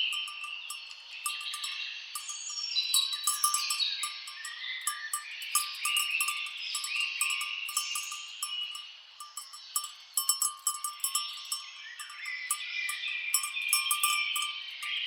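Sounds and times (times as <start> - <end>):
birds calling and chirping: 0.0 - 15.0
cowbells clanking: 0.0 - 15.0.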